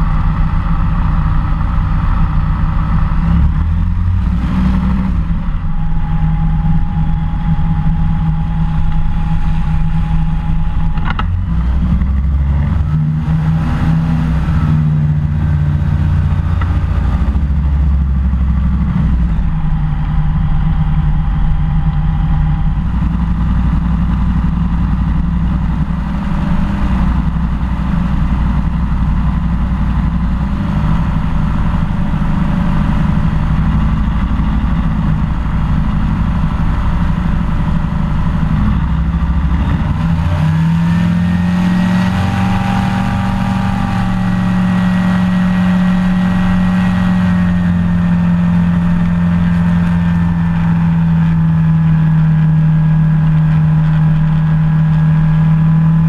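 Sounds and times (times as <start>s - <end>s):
seaplane engine running: 0.0s - 56.0s.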